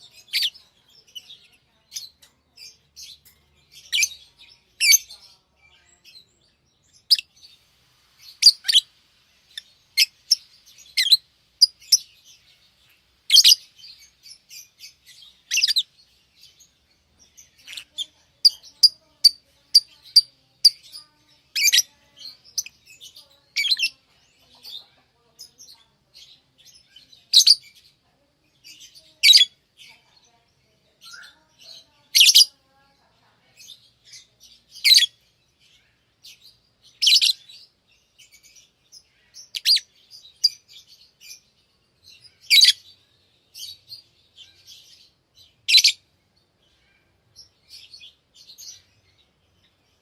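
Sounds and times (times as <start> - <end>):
lovebirds chirping: 0.0 - 50.0.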